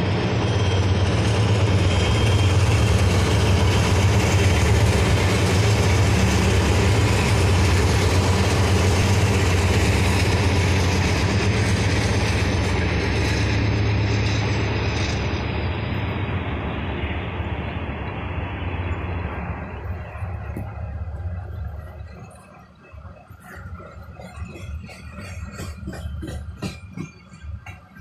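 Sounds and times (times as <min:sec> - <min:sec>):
diesel locomotive engines droning: 0:00.0 - 0:28.0
freight cars rolling on rails: 0:00.0 - 0:28.0.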